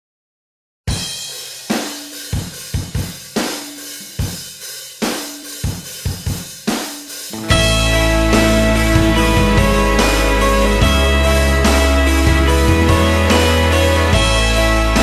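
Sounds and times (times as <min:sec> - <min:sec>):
drum kit beat: 0:00.9 - 0:15.0.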